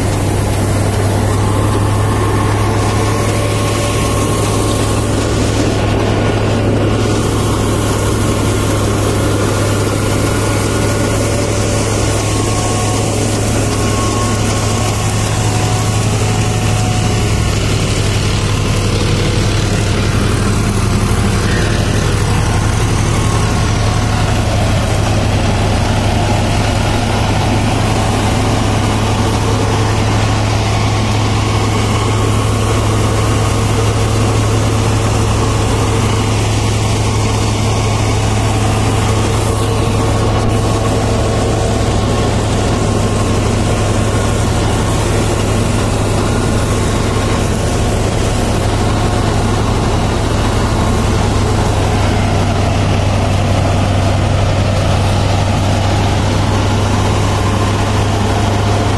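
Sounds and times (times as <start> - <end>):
reaper machinery running: 0.0 - 58.9
tractor diesel engine running: 0.0 - 58.9.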